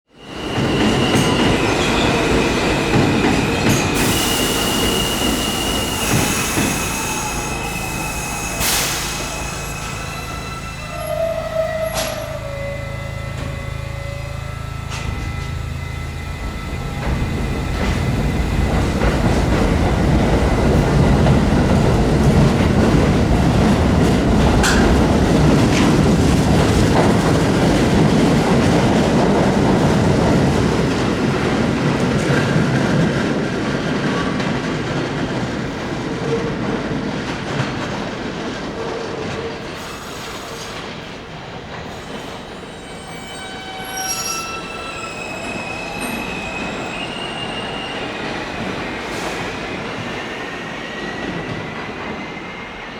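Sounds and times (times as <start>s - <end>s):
subway train passing: 0.1s - 52.9s.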